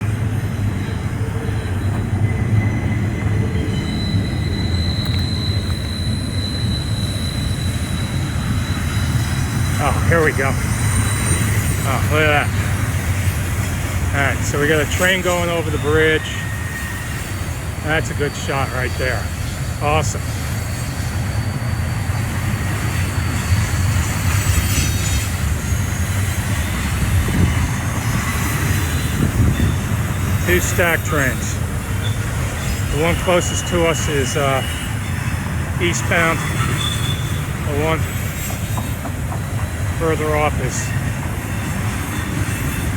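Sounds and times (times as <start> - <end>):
diesel train rumble: 0.0 - 42.9
high-pitched wheel squeal: 0.4 - 42.9.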